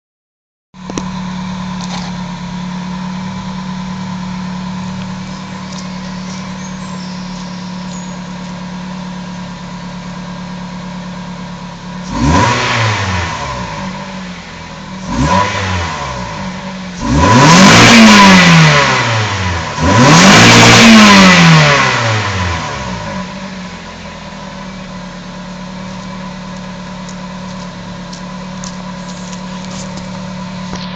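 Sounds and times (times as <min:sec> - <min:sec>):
car engine idling and revving: 0:00.8 - 0:30.9.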